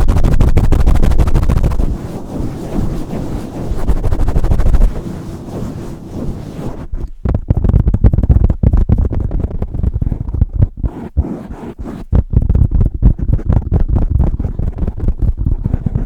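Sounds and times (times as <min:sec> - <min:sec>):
muffled thumps and rubbing on microphone: 0:00.0 - 0:16.0.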